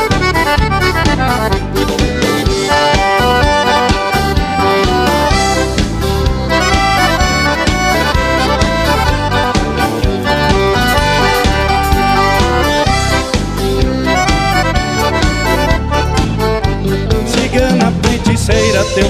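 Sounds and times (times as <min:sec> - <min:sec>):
accordion melody: 0:00.0 - 0:19.0
bass and rhythm accompaniment: 0:00.0 - 0:19.0.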